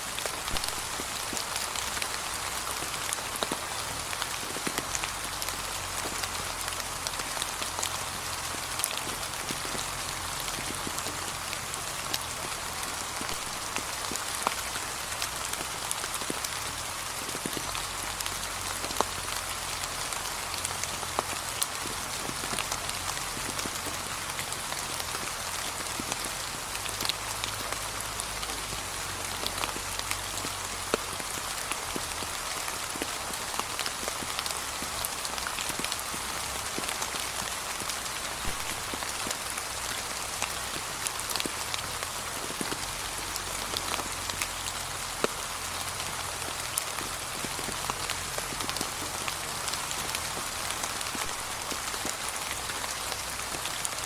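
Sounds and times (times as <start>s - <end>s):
gentle rain: 0.0s - 54.0s
raindrops ticking on a surface: 0.0s - 54.0s.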